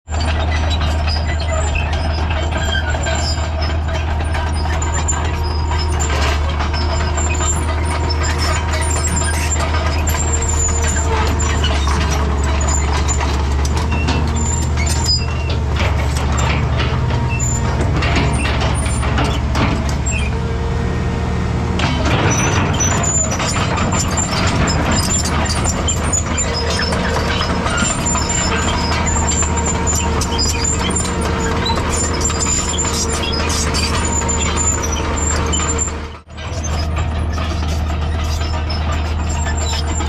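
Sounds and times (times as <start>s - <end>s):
excavator diesel engine running: 0.1s - 40.0s
machine knocks and clanks: 0.2s - 20.5s, 21.8s - 40.0s.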